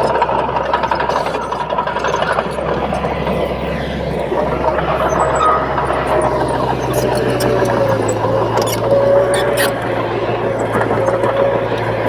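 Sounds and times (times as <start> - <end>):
bulldozer diesel engine running: 0.0 - 12.0
thin whine: 1.0 - 12.0.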